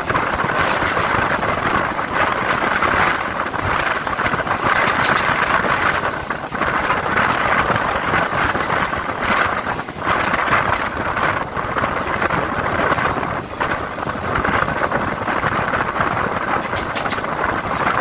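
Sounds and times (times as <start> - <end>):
train rushing noise: 0.0 - 18.0.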